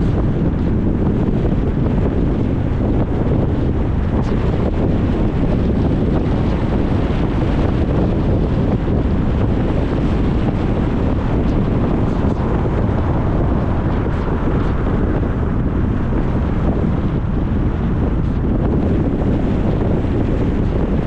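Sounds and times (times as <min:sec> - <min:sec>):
wind rushing: 0:00.0 - 0:21.0.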